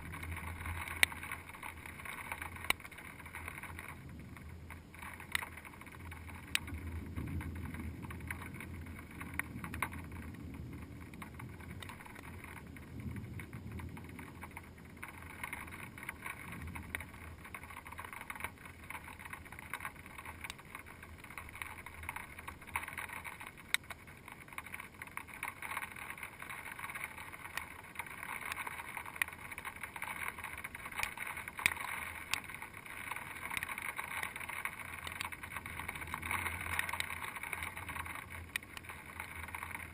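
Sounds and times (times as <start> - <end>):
faint ticks: 0.0 - 39.9
muffled storm hiss: 0.0 - 39.9.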